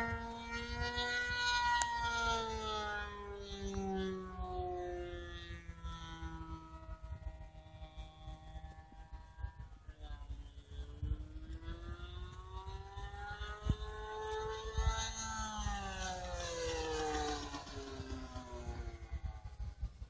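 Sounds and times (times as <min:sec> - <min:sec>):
model plane engine buzzing: 0:00.0 - 0:20.0.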